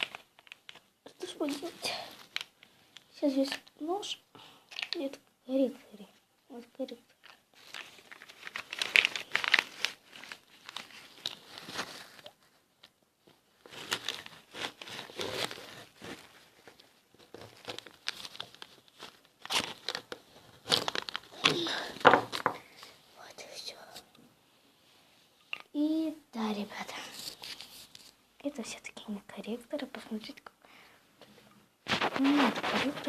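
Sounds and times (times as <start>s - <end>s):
plastic crackling and crinkling: 0.0s - 5.2s, 6.7s - 24.1s, 25.4s - 30.5s, 31.2s - 33.0s.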